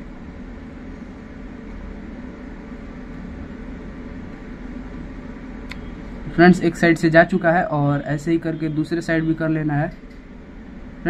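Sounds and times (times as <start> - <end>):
low room hum and hiss: 0.0 - 11.0.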